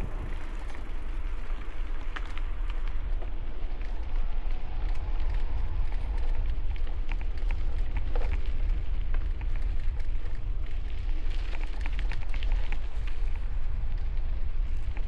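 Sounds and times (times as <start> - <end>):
light ticks and crackles: 0.0 - 15.0
wind buffeting a microphone: 0.0 - 15.0.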